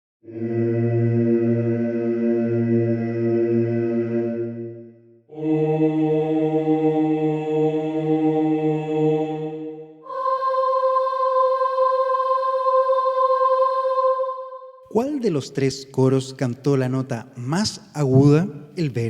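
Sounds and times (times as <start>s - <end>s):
choir singing held notes: 0.3s - 15.2s, 18.0s - 19.0s.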